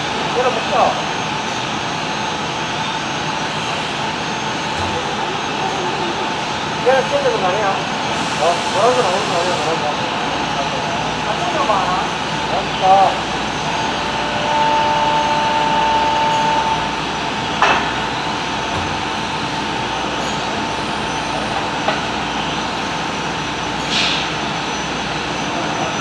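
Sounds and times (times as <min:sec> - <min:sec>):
factory machinery noise: 0:00.0 - 0:26.0.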